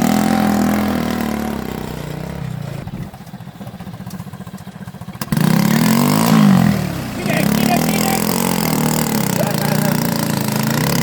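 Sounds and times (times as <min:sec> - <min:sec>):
louder engine revving: 0:00.0 - 0:03.2, 0:05.0 - 0:11.0
small tractor engine idling: 0:00.0 - 0:11.0.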